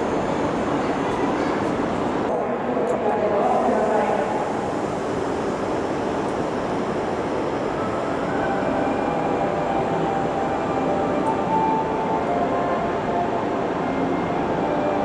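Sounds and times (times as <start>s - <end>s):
high-speed train running: 0.0s - 15.0s.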